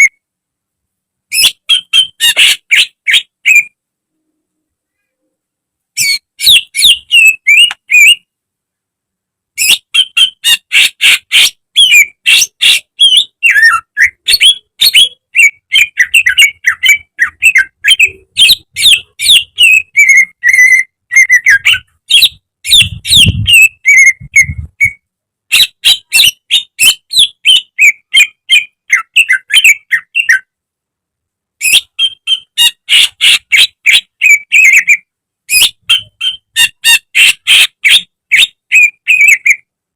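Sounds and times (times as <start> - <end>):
bird singing sharp chirps and whistles: 1.3 - 3.7, 6.0 - 8.2, 9.6 - 30.5, 31.6 - 39.6.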